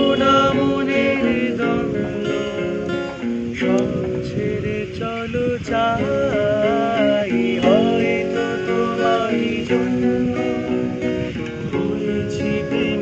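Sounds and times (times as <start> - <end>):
man singing: 0.0 - 2.8, 3.5 - 13.0
strummed acoustic guitar: 0.0 - 13.0.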